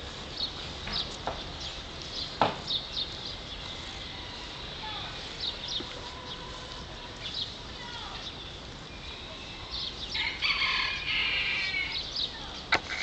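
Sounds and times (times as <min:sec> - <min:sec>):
birds chirping and chattering: 0:00.0 - 0:13.0
steady background hiss: 0:00.0 - 0:13.0.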